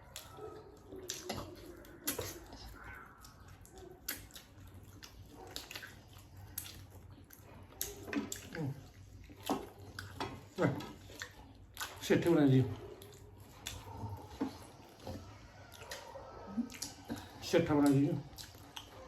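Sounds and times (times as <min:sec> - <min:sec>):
wet chewing and lip-smacking: 0:00.0 - 0:19.0.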